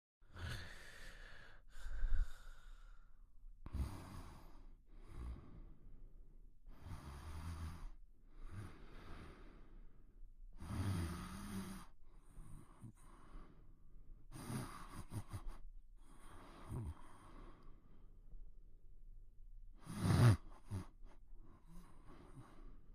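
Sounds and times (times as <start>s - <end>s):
quiet snoring breaths: 0.2s - 18.4s, 19.7s - 22.9s.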